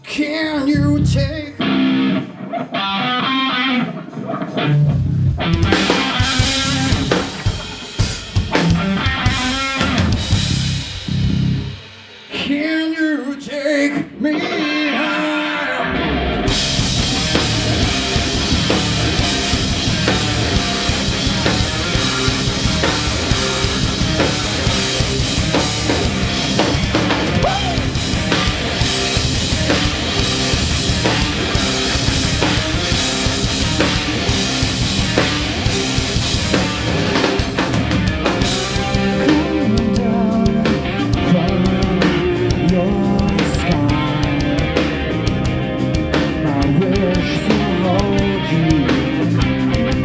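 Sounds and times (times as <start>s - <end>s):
rock band playing: 0.0s - 50.0s.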